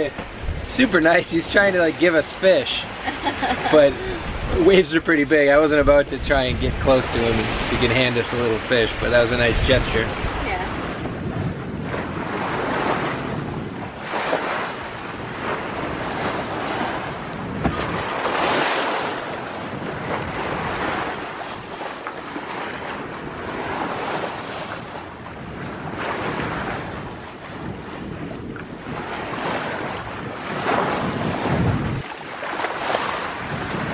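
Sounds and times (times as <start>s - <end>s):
water splashing along hull: 0.0s - 33.9s
wind buffeting microphone: 0.0s - 33.9s.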